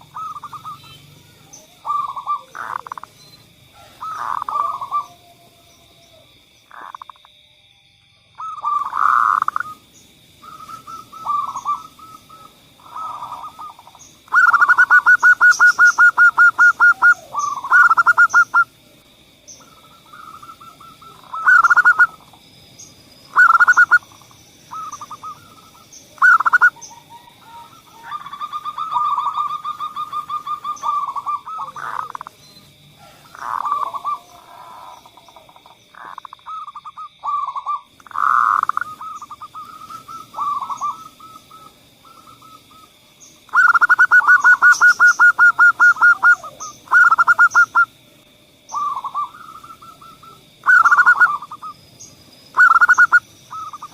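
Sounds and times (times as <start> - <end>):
doves cooing: 0.0 - 7.2, 8.4 - 18.8, 19.4 - 22.6, 23.2 - 48.0, 48.7 - 51.8, 52.5 - 53.9.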